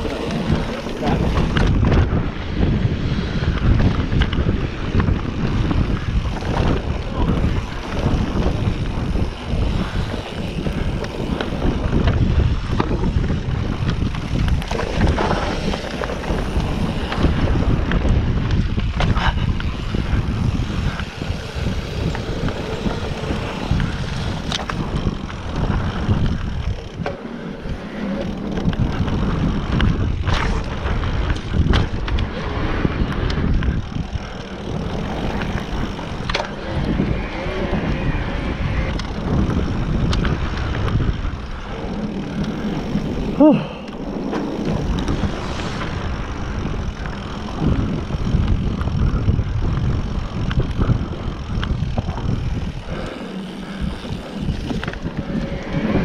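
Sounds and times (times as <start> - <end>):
bike rattling on dirt trail: 0.0 - 56.0
wind buffeting microphone: 0.0 - 56.0.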